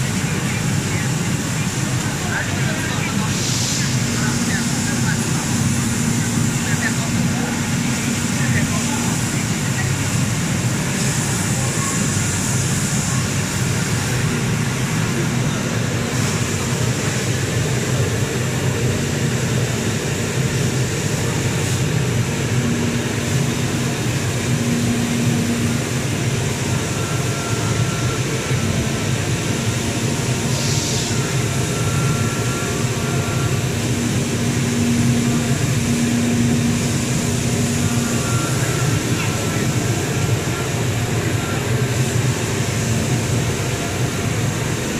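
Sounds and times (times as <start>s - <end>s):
cutting machine mechanical drone: 0.0s - 44.9s
higher whine: 0.0s - 44.9s.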